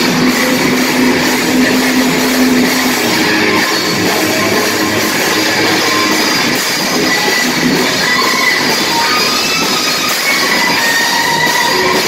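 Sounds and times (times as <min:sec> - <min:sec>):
bass guitar: 0:00.0 - 0:12.0
drums: 0:00.0 - 0:12.0
electric guitars: 0:00.0 - 0:12.0.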